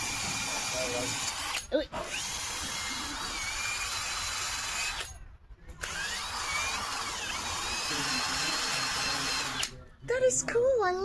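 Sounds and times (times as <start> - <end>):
cordless power drill running: 0.0 - 5.1, 5.8 - 9.8.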